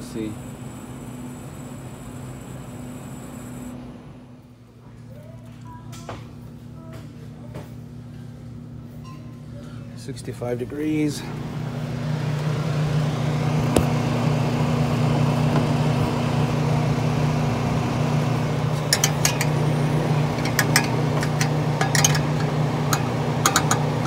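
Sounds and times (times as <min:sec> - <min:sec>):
cooler fans humming: 0:00.0 - 0:24.0.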